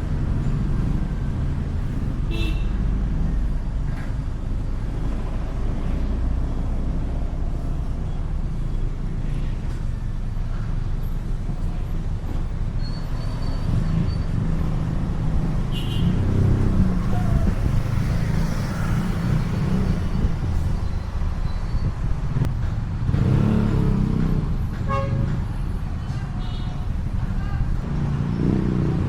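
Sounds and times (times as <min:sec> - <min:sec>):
traffic rumble: 0:00.0 - 0:29.0
vehicle engine: 0:00.0 - 0:29.0.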